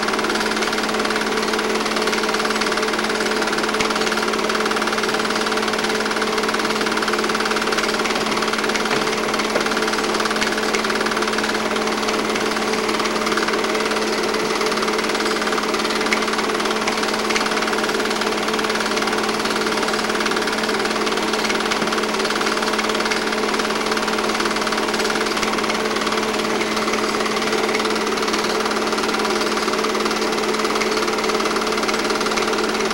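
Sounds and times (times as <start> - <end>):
film projector rattling: 0.0 - 32.9.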